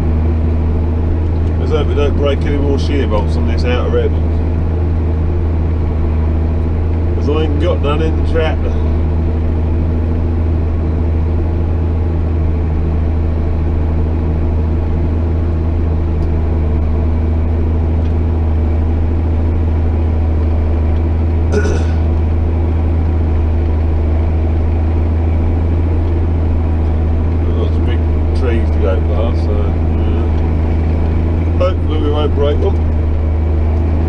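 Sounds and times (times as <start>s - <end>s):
tractor engine drone: 0.0s - 34.0s.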